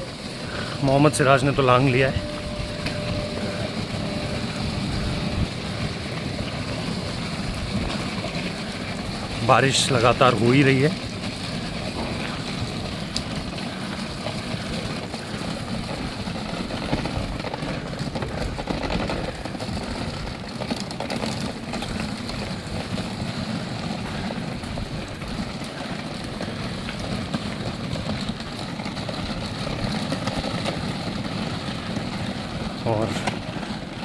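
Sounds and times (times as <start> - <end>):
steady rain falling: 0.0 - 20.1, 20.7 - 28.6
vehicle engine idling: 0.0 - 34.0.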